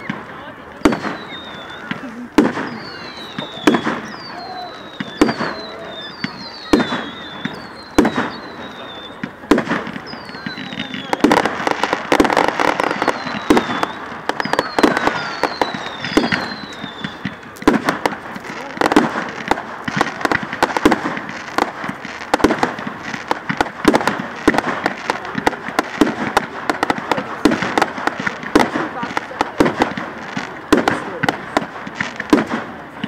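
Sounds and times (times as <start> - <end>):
fireworks bangs and crackling: 0.0 - 33.0
falling firework whistles: 0.8 - 28.7.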